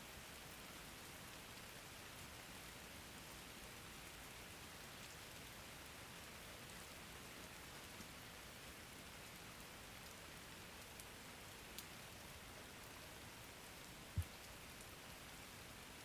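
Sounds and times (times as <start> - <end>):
soft steady rain: 0.0 - 16.0.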